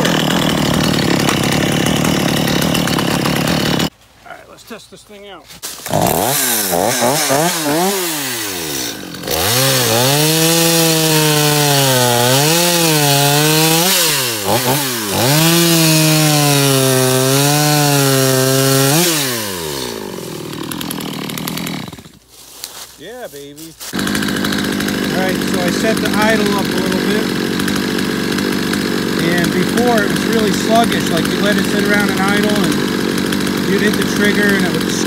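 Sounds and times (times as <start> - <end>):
chainsaw cutting a tree limb: 0.0 - 3.9, 5.6 - 22.8, 23.5 - 35.0.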